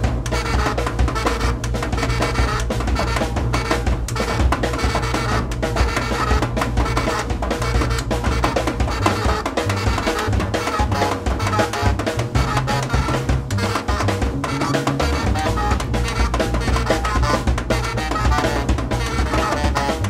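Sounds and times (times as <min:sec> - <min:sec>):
drum kit playing rapidly: 0:00.0 - 0:20.0
low bass notes: 0:00.0 - 0:20.0
saxophone: 0:00.0 - 0:20.0.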